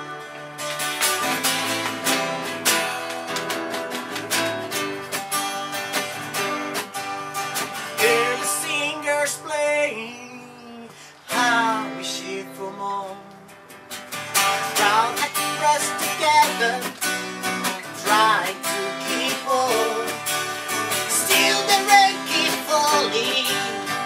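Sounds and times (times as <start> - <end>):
acoustic guitars strumming chords: 0.0 - 24.0.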